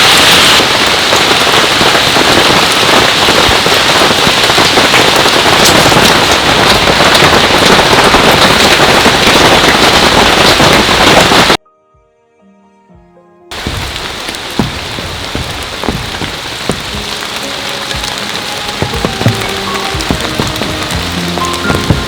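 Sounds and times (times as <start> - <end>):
heavy rain hissing: 0.0 - 11.6, 13.5 - 22.0.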